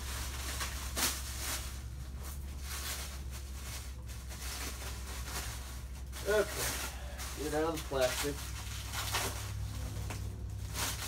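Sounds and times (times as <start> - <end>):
plastic wrapping crinkling: 0.0 - 11.0
steady low hum: 0.0 - 11.0.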